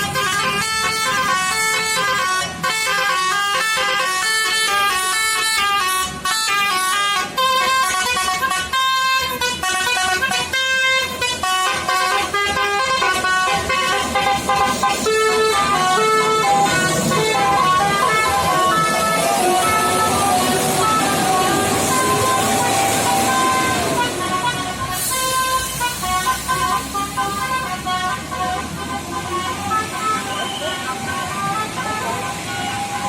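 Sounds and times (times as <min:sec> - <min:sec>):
multi-tone horns playing a tune: 0:00.0 - 0:33.0.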